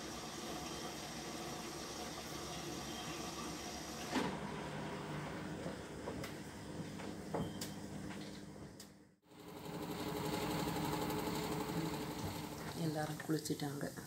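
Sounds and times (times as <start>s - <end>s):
washing machine motor humming: 0.0s - 8.6s, 9.2s - 13.8s.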